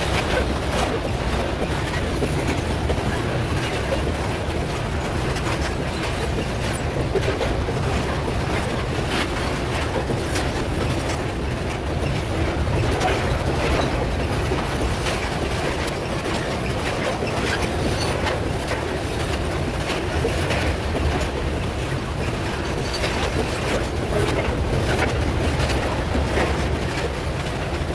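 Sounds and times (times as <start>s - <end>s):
freight train rumbling past: 0.0s - 27.9s
wheels clicking over rail joints: 0.0s - 27.9s.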